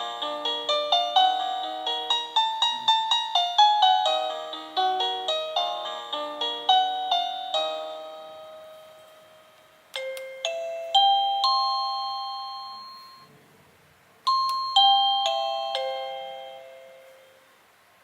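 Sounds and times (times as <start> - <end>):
doorbell electronic chime: 0.0 - 13.3, 14.3 - 17.4.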